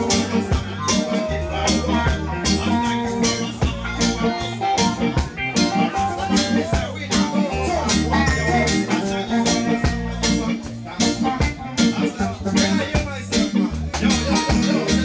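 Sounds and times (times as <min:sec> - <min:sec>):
person singing into microphone: 0:00.0 - 0:15.0
reggae band playing: 0:00.0 - 0:15.0.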